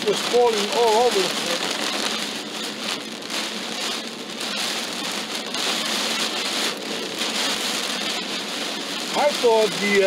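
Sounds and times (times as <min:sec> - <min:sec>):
heavy rain on car windshield: 0:00.0 - 0:10.0.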